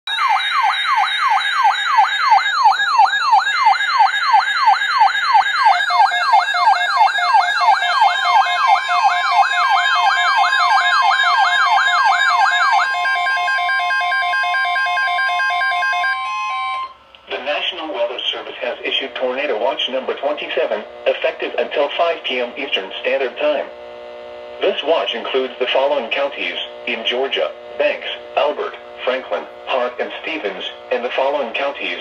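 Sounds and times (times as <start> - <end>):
warbling alarm siren: 0.1 - 32.0.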